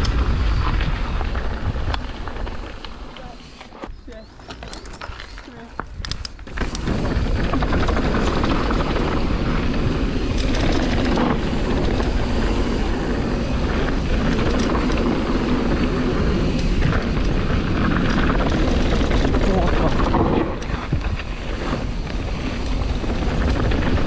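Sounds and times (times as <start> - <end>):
bike rattling and clattering: 0.0 - 24.0
wind on microphone: 0.0 - 24.0
tyres rumbling over rock: 0.2 - 24.0.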